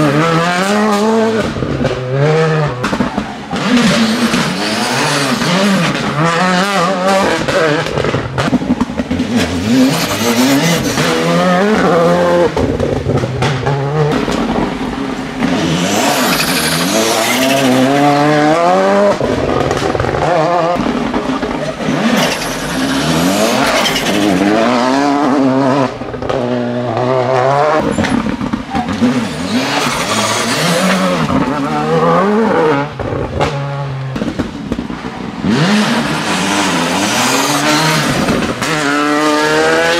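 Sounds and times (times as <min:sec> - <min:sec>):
rally cars passing at full throttle: 0:00.0 - 0:39.9.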